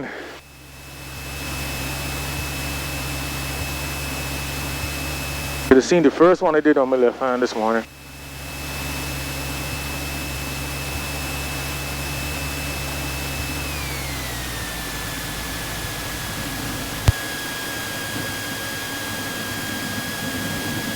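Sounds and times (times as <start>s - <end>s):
aircraft cockpit rushing noise: 0.0s - 20.9s.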